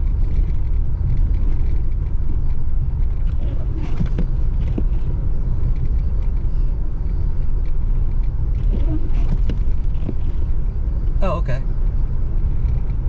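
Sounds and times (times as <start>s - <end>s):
vehicle rumble from inside cabin: 0.0s - 13.0s.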